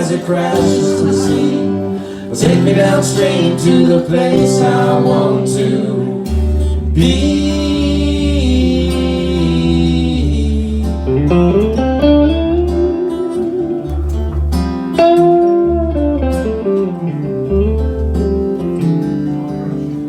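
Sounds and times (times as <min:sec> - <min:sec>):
guitar lead line: 0:00.0 - 0:20.0
low bass notes: 0:00.0 - 0:20.0.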